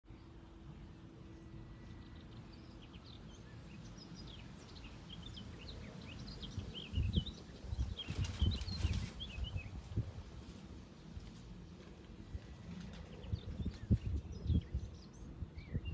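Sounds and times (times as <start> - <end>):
small birds chirping: 0.1 - 15.9.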